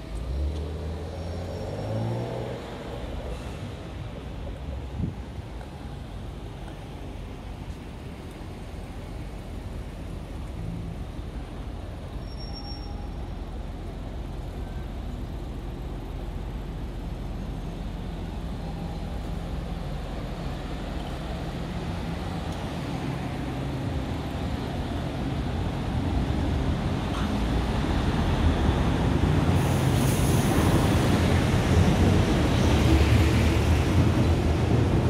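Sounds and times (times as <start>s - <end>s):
rumble of passing traffic: 0.0s - 35.0s.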